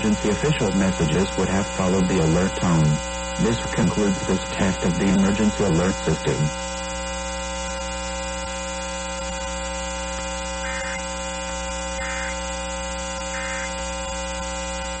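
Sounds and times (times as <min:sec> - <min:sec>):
faint warbling data bursts: 0:00.0 - 0:15.0
loud electrical buzz: 0:00.0 - 0:15.0.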